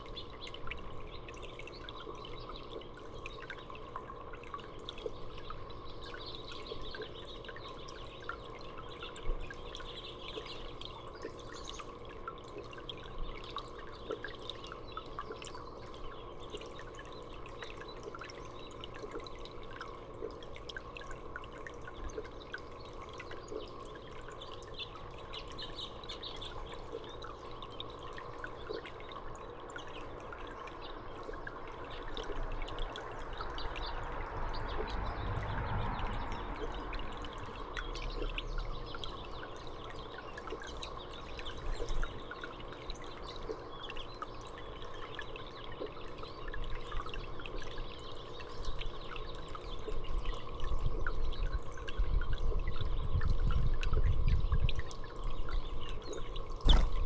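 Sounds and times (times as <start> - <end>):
water dripping and trickling: 0.0 - 57.0.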